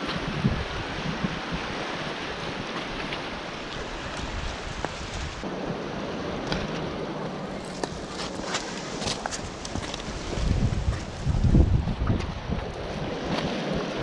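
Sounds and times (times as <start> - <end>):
sea surf: 0.0 - 14.0
wind on microphone: 0.0 - 14.0.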